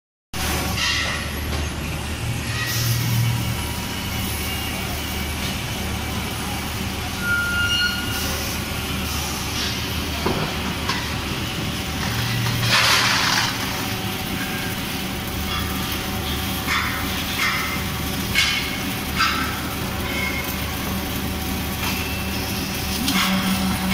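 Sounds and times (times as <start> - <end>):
welding machine humming: 0.4 - 23.9.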